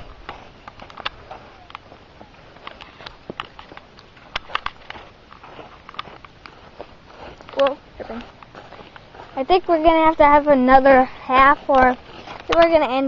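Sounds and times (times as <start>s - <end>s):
faint clicks and taps: 0.2s - 2.0s, 2.6s - 10.5s, 11.3s - 13.0s.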